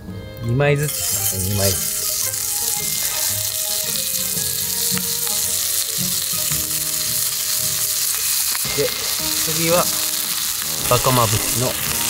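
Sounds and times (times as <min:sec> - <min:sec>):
pork sizzling in hot fat: 0:00.8 - 0:12.0.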